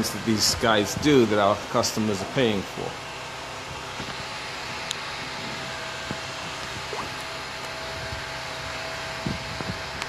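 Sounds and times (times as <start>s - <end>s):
faint constant hum: 0.0s - 10.0s.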